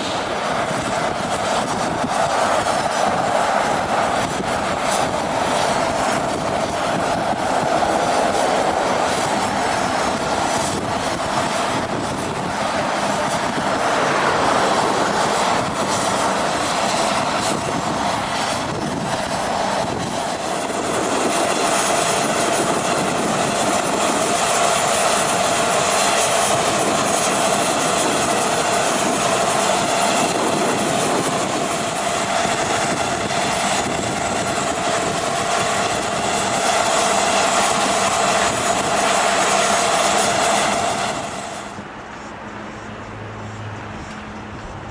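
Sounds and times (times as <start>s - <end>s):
jet turbines whining: 0.0s - 44.9s.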